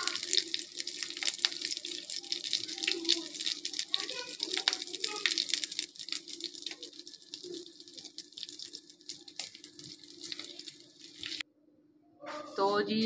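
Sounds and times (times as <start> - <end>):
ghee sizzling in frying pan: 0.0 - 11.4.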